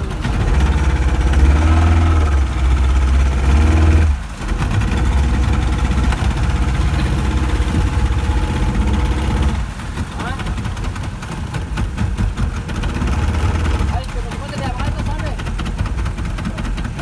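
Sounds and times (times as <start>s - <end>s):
outboard motors hum: 0.0s - 17.0s.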